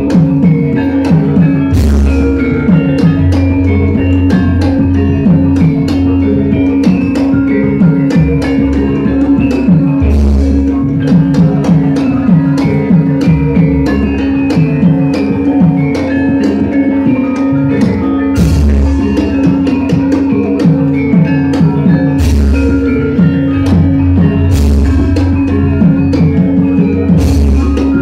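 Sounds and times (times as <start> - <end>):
gamelan music over loudspeakers: 0.0 - 28.0.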